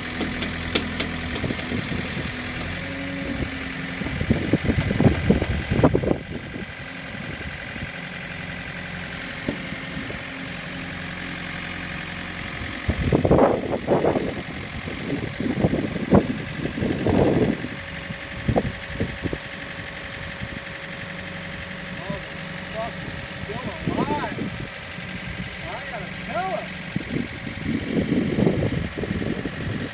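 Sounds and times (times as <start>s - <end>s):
backhoe engine running: 0.0s - 29.9s.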